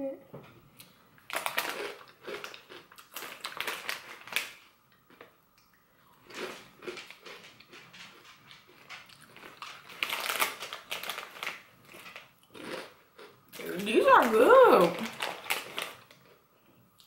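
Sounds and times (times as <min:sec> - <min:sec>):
crunching and chewing snacks: 0:00.8 - 0:16.4
plastic snack bag rustling: 0:01.2 - 0:05.2, 0:06.2 - 0:16.4.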